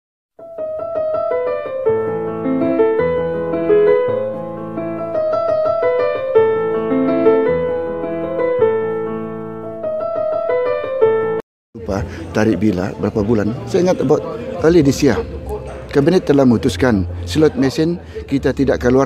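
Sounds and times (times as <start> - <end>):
piano music: 0.4 - 11.4, 12.2 - 19.0.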